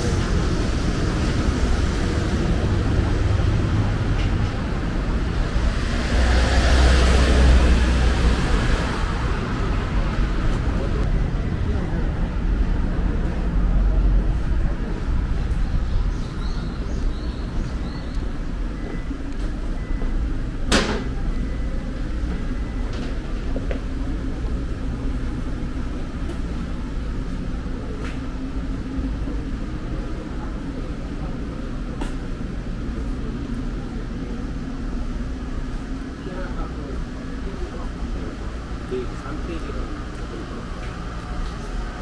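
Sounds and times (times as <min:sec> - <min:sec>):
traffic rumble: 0:00.0 - 0:42.0.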